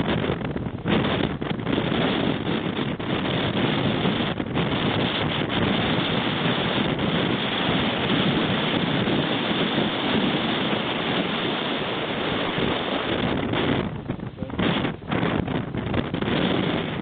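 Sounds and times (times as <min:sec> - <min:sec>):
surf rushing: 0:00.0 - 0:17.0
wind: 0:00.0 - 0:17.0
wind buffeting microphone: 0:00.0 - 0:17.0.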